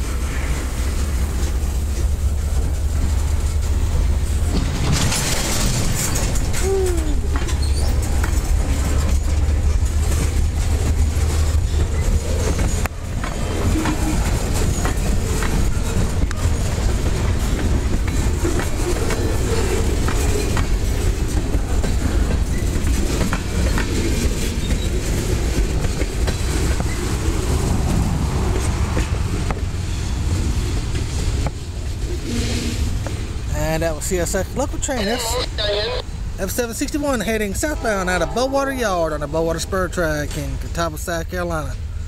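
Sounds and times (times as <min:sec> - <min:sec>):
train wheels clicking over rail joints: 0:00.0 - 0:34.9
train rumble: 0:00.0 - 0:42.0.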